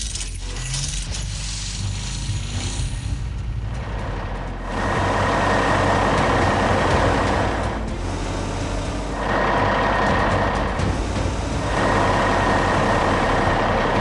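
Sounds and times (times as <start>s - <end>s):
cartoon truck engine rumble: 1.8s - 14.0s.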